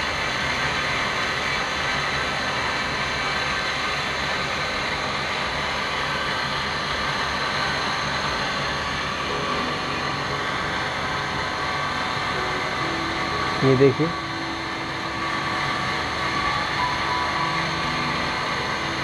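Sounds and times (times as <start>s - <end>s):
low even hum: 0.0s - 19.0s.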